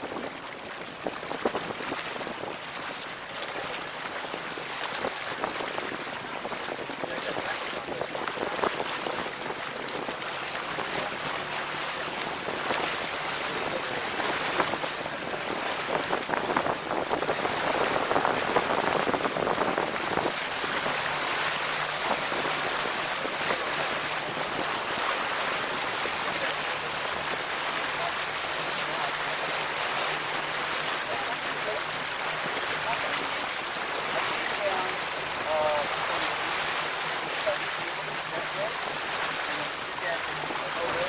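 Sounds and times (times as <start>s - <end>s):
water splashing along boat hull: 0.0s - 41.0s.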